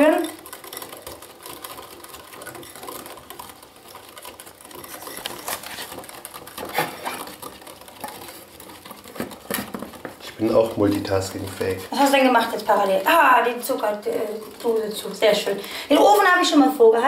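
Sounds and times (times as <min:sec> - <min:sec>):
whisk beating in ceramic bowl: 0:00.0 - 0:17.0.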